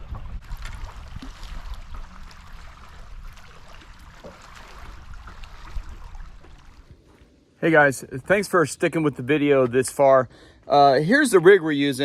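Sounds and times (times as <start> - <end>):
water lapping and trickling: 0.0 - 7.6, 9.2 - 12.0.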